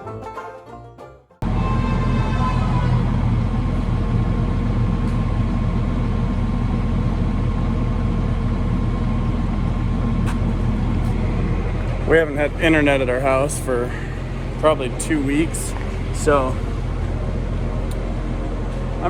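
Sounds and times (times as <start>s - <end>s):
vehicle engine running steadily: 1.4s - 19.0s.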